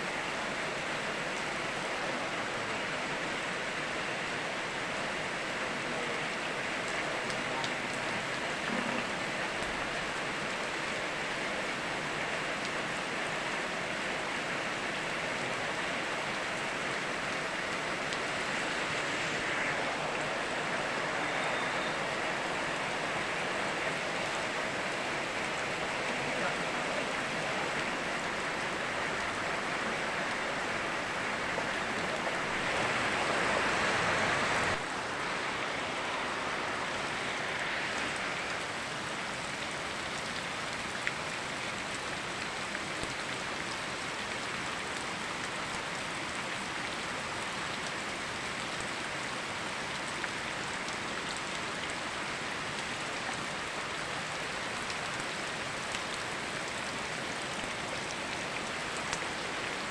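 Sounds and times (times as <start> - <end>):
flowing river: 0.0 - 59.9
steady rain: 0.0 - 59.9.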